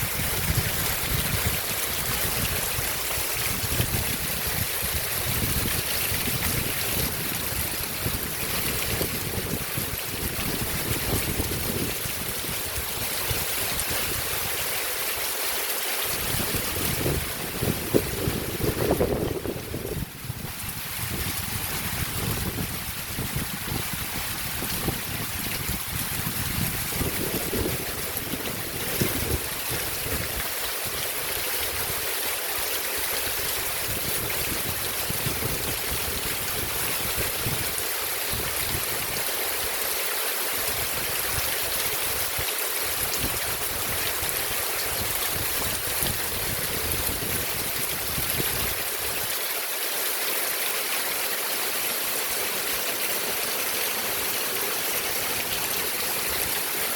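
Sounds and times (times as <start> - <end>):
wind buffeting microphone: 0.0 - 14.8, 16.1 - 32.1, 33.2 - 39.3, 40.6 - 49.4
heavy rain falling: 0.0 - 56.9.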